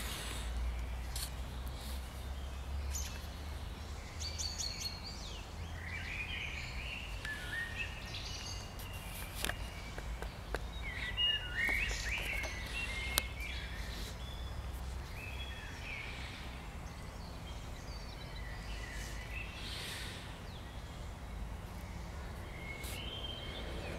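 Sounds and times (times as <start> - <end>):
songbirds chirping and warbling: 0.0 - 23.9.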